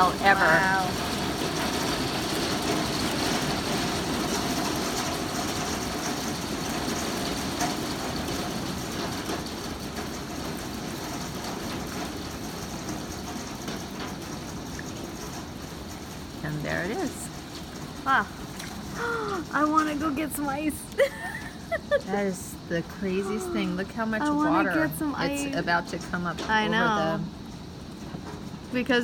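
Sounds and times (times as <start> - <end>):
hail and rain pelting down: 0.0 - 29.0.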